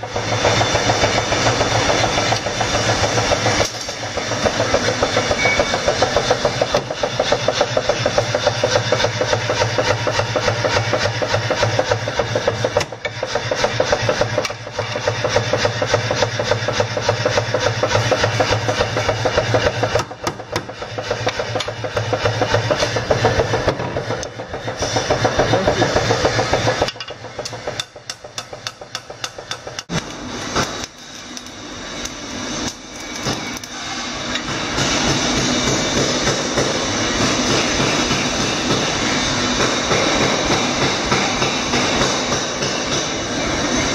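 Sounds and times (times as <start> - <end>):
power hammer pounding metal: 0.0 - 30.9, 34.4 - 43.8.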